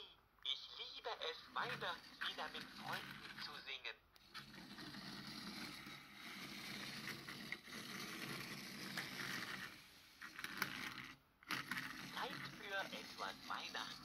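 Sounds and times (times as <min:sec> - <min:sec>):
toy wheels rolling on floor: 0:01.2 - 0:14.0.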